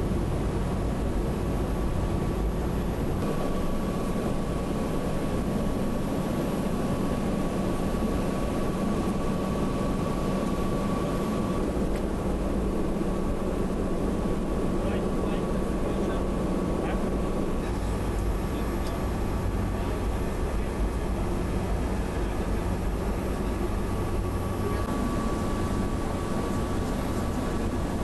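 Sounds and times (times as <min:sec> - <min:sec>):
aircraft engines and airflow rush: 0:00.0 - 0:28.0.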